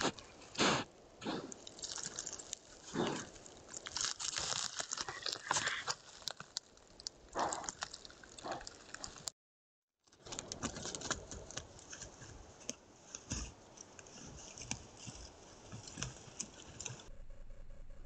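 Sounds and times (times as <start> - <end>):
animal rustling through dry grass: 0.0 - 9.3, 10.2 - 17.1.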